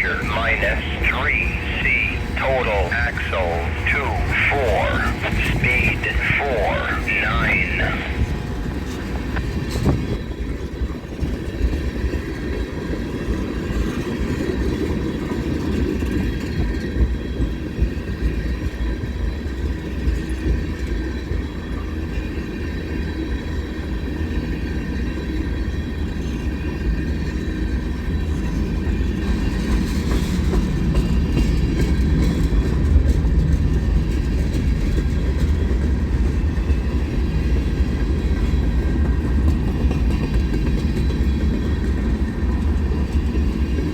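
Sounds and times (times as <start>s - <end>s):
train wheels rumbling on rails: 7.7s - 43.9s
clickety-clack of train wheels: 8.2s - 43.9s.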